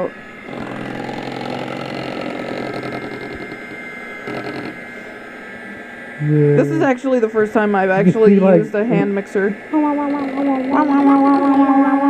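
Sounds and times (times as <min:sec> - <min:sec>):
electric hand mixer beating batter: 0:00.0 - 0:05.2, 0:06.6 - 0:12.0.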